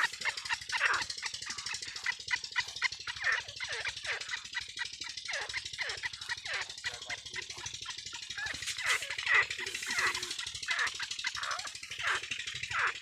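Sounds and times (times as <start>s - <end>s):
francolins calling: 0.0s - 13.0s.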